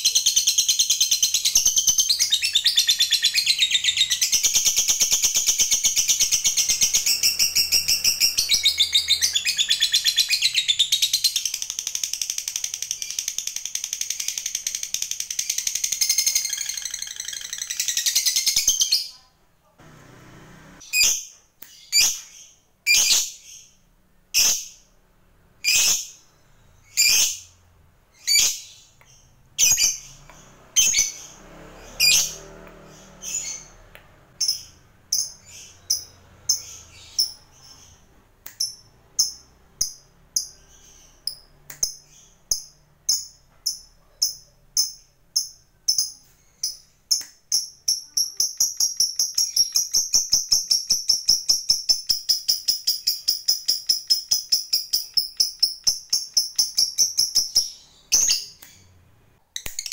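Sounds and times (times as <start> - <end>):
lovebird shrill chirping trill: 0.0 - 19.2, 20.8 - 24.9, 25.6 - 30.2, 30.8 - 58.9.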